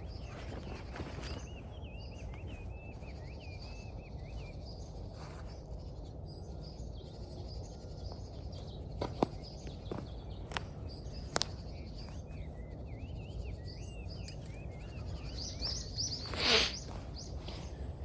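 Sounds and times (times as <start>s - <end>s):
low outdoor background noise: 0.0s - 18.0s
songbird warbling chirps: 0.0s - 18.0s.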